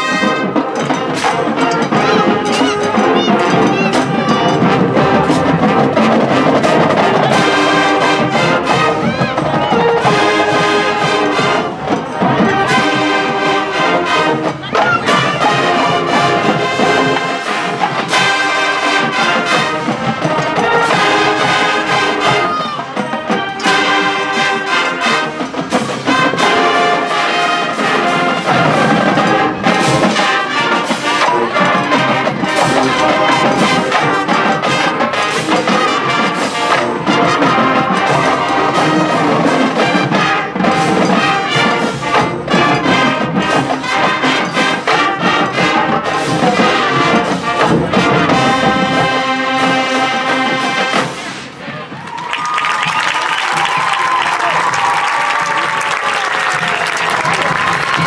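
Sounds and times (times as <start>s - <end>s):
brass chords and melody: 0.0s - 52.0s
drum strikes: 0.0s - 58.0s.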